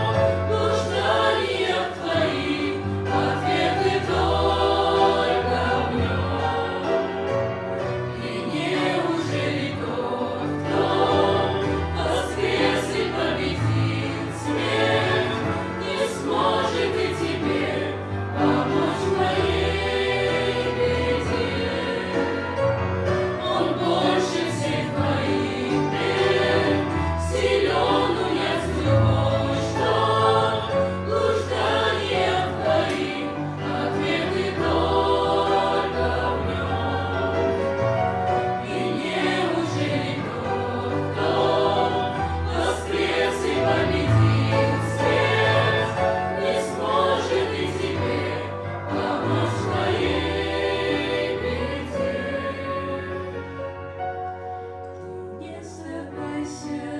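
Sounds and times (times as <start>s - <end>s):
choir singing a hymn: 0.0s - 56.9s.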